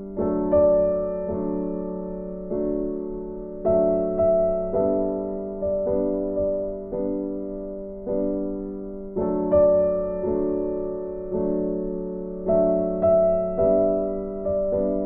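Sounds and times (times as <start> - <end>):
slow gentle piano piece: 0.0 - 15.0.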